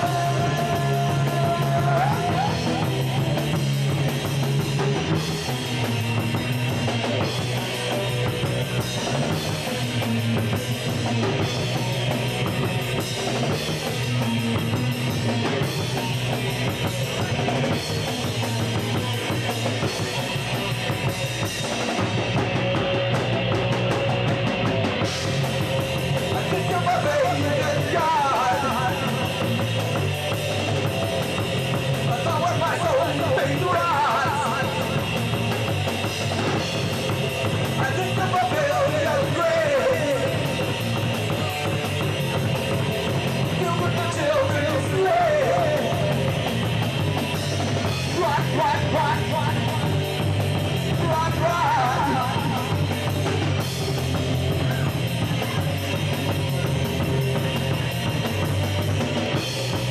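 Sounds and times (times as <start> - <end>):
drum kit pounding: 0.0 - 59.9
electric guitars: 0.0 - 59.9.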